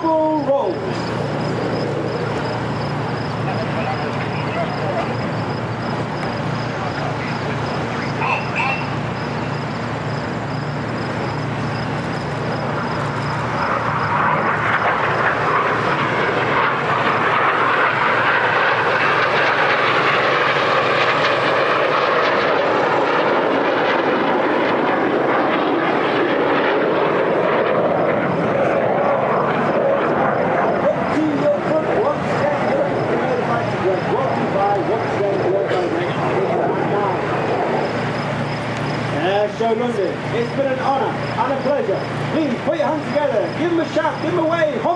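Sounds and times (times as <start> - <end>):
jet flying past: 0.0 - 44.9
jet whine falling in pitch: 0.0 - 44.9.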